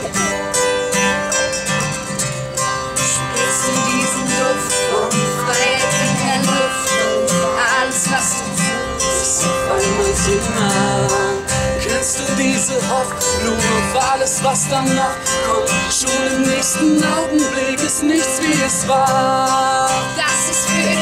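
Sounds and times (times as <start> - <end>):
acoustic guitar strumming: 0.0 - 21.0
person singing wordlessly: 3.1 - 21.0.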